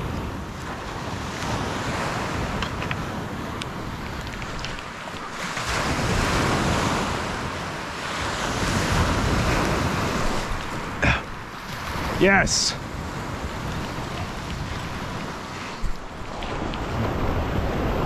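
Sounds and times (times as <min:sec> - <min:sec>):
waves washing on a beach: 0:00.0 - 0:18.0
wind buffeting microphone: 0:00.0 - 0:18.0.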